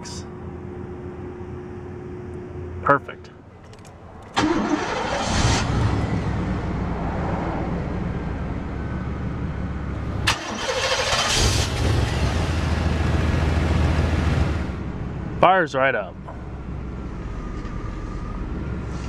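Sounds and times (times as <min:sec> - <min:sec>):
car engine starting and idling: 0:03.4 - 0:19.0.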